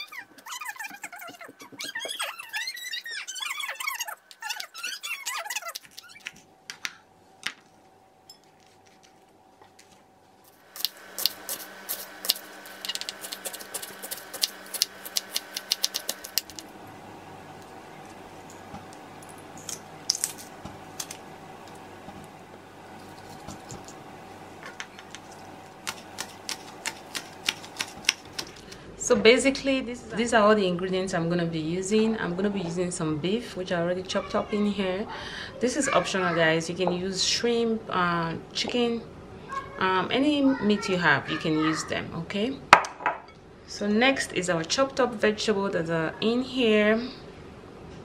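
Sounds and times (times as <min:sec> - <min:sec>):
steady hum with held tones: 0:03.8 - 0:48.0.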